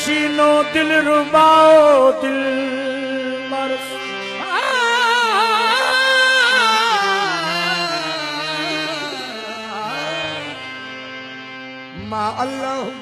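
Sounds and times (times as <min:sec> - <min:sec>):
sustained musical accompaniment: 0:00.0 - 0:13.0.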